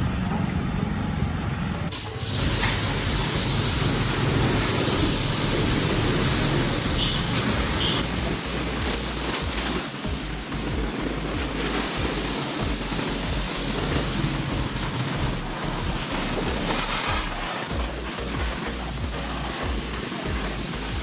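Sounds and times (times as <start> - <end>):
pressure washer jet hissing: 1.9 - 21.0.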